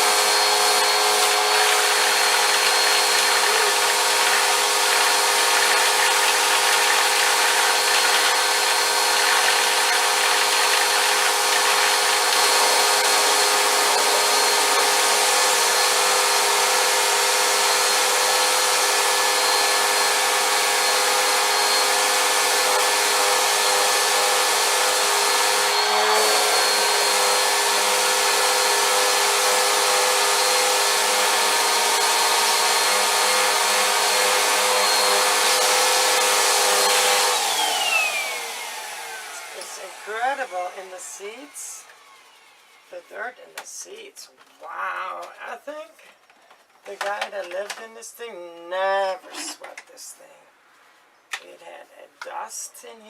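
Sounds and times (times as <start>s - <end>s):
vacuum cleaner motor whine: 0.0s - 43.0s.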